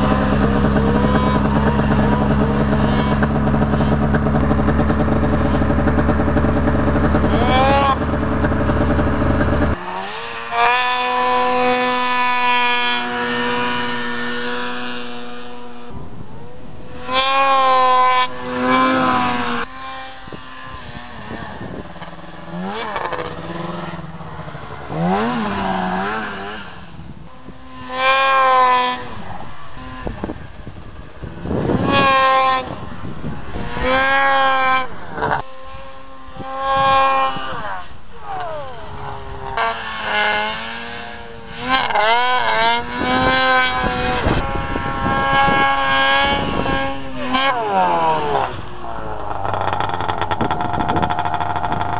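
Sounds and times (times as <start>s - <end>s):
snowmobile engines revving: 0.0s - 51.9s.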